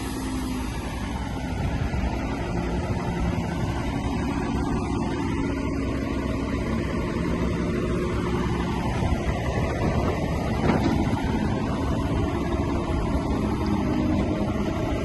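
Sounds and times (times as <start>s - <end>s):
heavy machinery diesel engine running: 0.0s - 15.0s.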